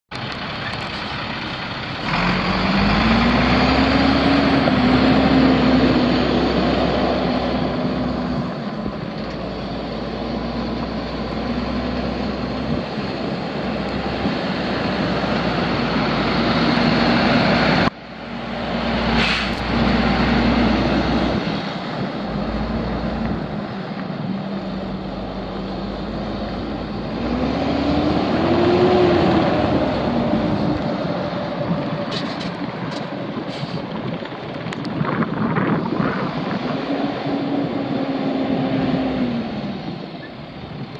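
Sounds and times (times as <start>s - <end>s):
diesel engine revving: 0.1s - 40.9s.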